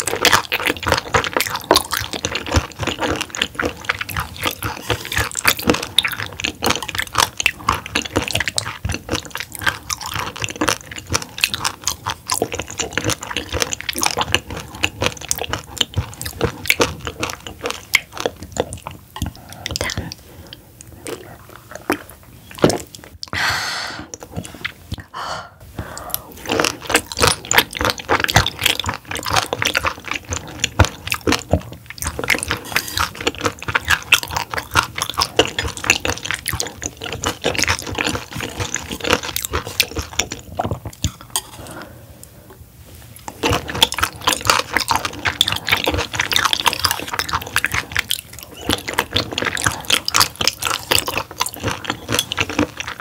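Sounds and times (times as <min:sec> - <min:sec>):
wet chewing and smacking: 0:00.0 - 0:23.4, 0:24.1 - 0:25.1, 0:26.0 - 0:41.9, 0:43.1 - 0:53.0.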